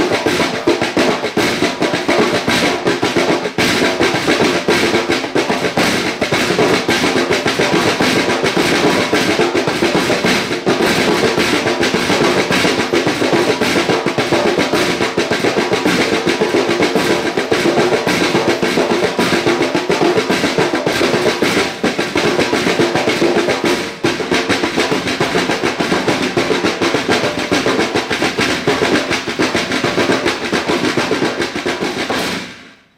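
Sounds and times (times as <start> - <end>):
bass drum: 0.0 - 32.4
fast snare drum pattern: 0.0 - 32.8.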